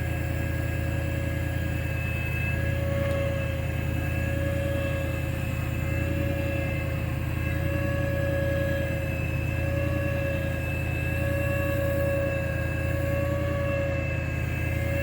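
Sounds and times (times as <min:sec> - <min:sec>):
machinery drone and whine: 0:00.0 - 0:15.0.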